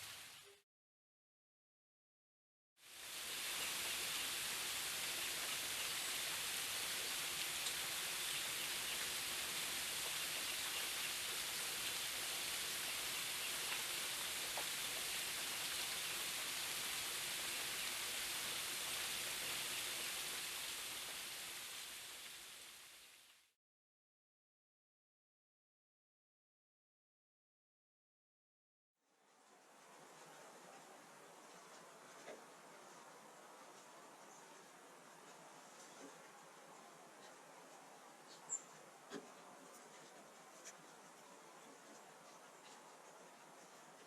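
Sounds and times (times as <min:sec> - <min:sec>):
steady rain hiss: 0:00.0 - 0:00.6, 0:02.8 - 0:23.6, 0:29.1 - 0:44.0.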